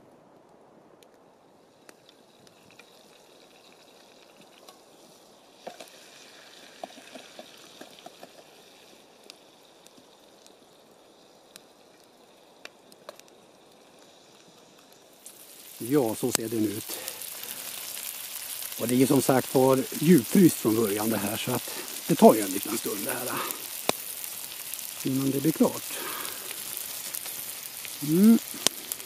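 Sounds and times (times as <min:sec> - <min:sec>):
fire crackling: 0:00.0 - 0:29.0
wood stove hissing: 0:00.6 - 0:29.0.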